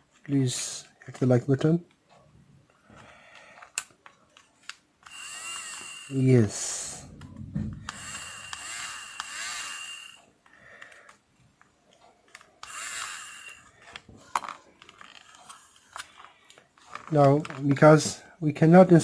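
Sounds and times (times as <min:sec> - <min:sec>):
plastic parts scraping: 0:02.8 - 0:18.2.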